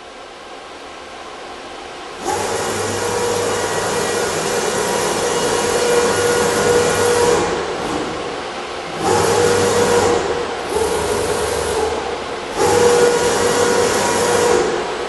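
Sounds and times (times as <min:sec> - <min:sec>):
router gantry drives whining: 0:02.2 - 0:15.0.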